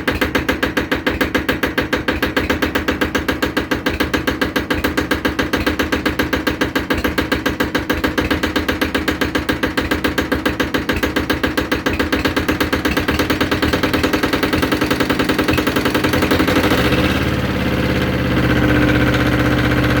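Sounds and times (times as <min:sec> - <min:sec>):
diesel tractor engine chugging: 0:00.0 - 0:20.0.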